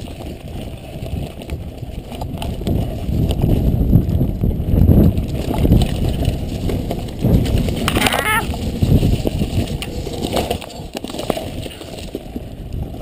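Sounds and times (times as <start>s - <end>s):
mountain bike rattling over dirt: 0.0s - 13.0s
wind buffeting microphone: 0.0s - 13.0s.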